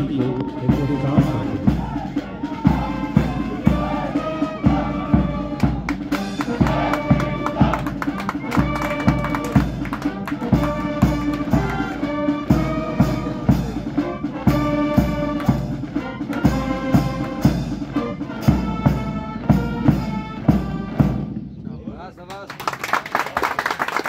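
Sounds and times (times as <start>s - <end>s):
brass band playing a march: 0.0s - 21.4s
steady drum beat: 0.0s - 21.5s.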